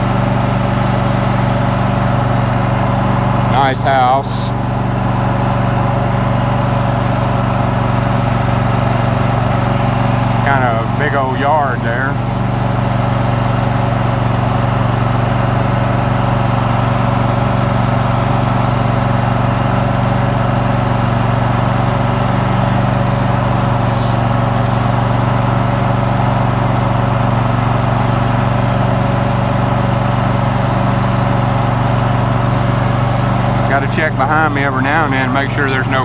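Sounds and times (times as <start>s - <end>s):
riding lawn mower engine: 0.0s - 36.0s.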